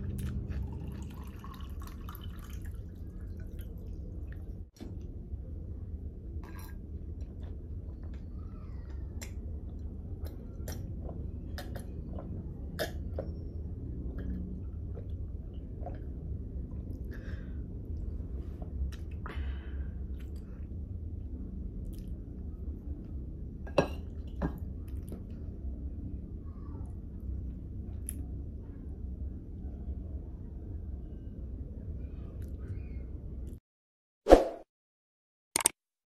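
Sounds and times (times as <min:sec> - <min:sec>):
steady low hum: 0:00.0 - 0:33.6.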